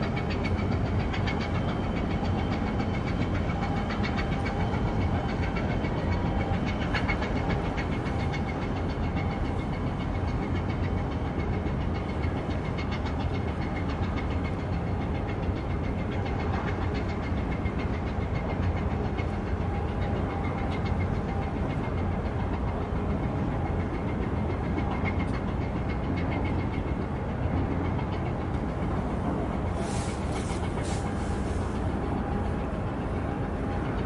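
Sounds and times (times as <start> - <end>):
engine running with ticking: 0.0 - 34.0.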